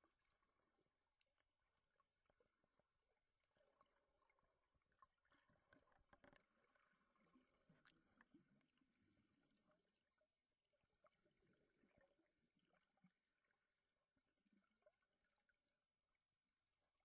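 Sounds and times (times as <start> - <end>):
faint underwater clicks and crackle: 0.0 - 17.0.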